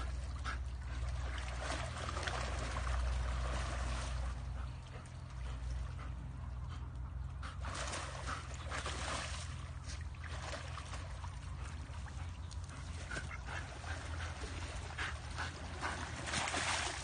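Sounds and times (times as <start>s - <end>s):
splashing through water: 0.0s - 4.6s, 7.6s - 17.0s.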